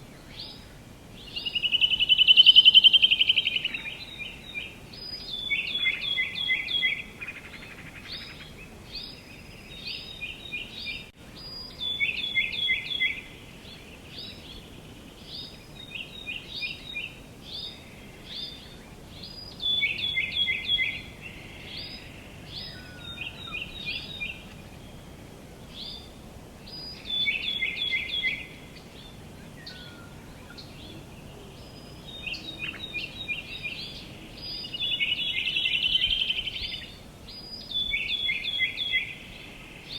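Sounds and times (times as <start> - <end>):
faint outdoor background hiss: 0.0 - 39.9
songbirds chirping: 0.0 - 39.9.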